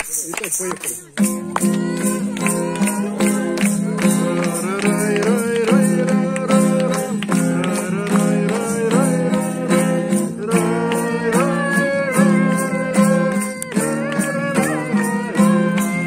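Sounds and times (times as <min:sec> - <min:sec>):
acoustic guitar strumming: 0:00.0 - 0:16.0
people singing: 0:01.4 - 0:16.0.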